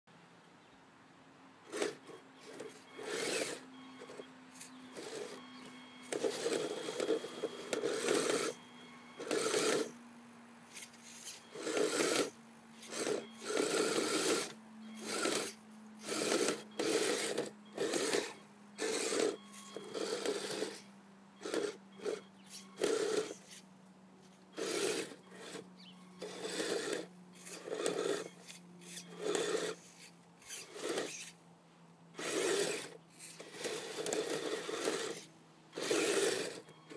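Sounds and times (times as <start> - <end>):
toy snowcat motor rasping bursts: 1.6 - 10.0, 10.7 - 31.4, 32.2 - 36.9.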